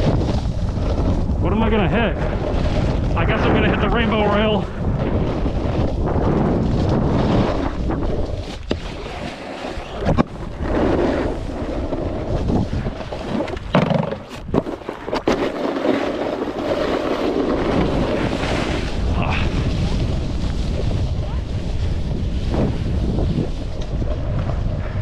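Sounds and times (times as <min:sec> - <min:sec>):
snowboard scraping over snow: 0:00.0 - 0:25.0
wind buffeting microphone: 0:00.0 - 0:25.0.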